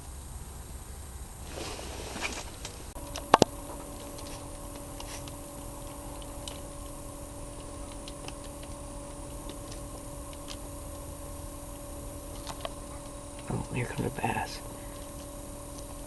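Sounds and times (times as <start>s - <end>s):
sharp clicks: 3.0s - 16.0s.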